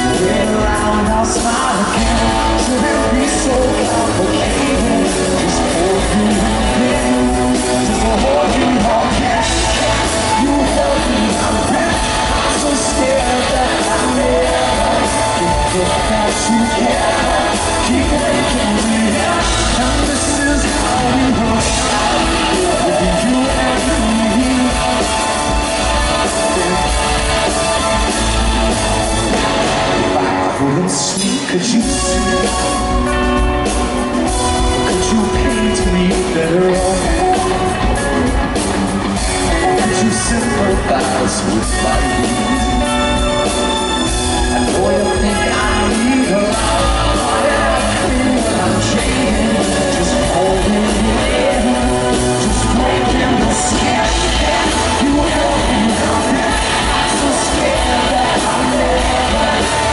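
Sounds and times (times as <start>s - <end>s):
live rock band playing: 0.0s - 59.9s
man singing: 0.0s - 59.9s.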